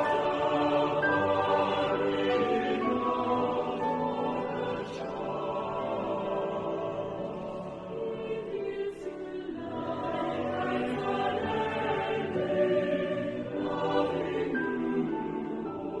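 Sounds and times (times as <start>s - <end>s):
choir singing slow church song: 0.0s - 16.0s.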